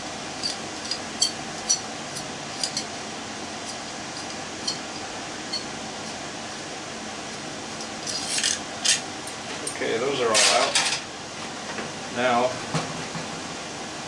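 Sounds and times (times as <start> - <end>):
fan-like hum: 0.0 - 14.0.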